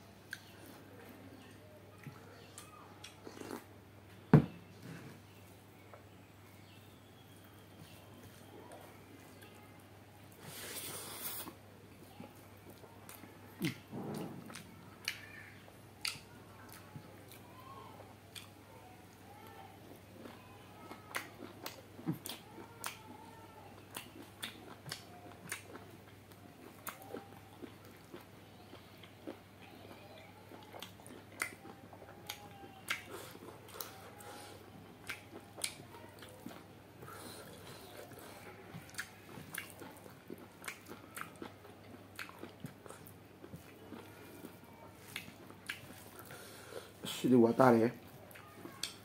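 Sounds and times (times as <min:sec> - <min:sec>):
man chewing with wet smacks: 0:00.2 - 0:03.8, 0:10.3 - 0:19.2, 0:19.8 - 0:49.0.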